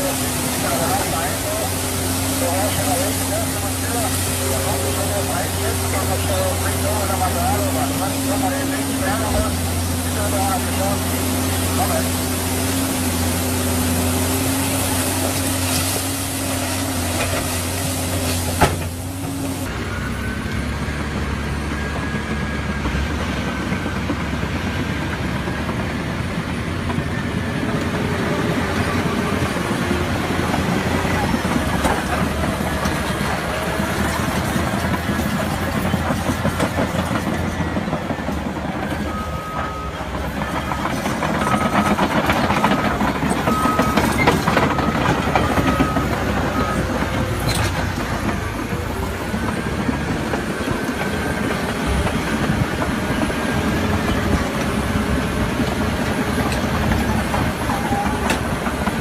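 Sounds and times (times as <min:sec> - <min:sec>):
heavy machinery rumble and clatter: 0:00.0 - 0:59.0.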